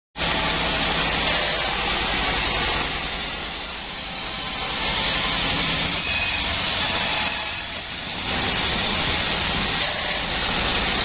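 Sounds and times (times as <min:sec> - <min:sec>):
band saw cutting wood: 0:00.2 - 0:11.0.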